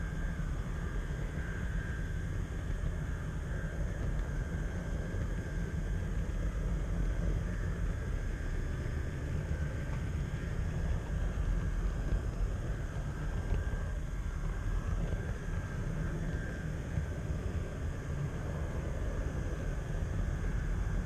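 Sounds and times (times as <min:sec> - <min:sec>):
thin steady whine: 0:00.0 - 0:21.0.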